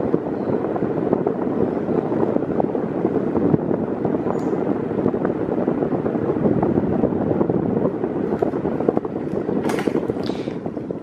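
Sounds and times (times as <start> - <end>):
electric fan rushing air: 0.0 - 11.0
wind buffeting microphone: 0.0 - 11.0.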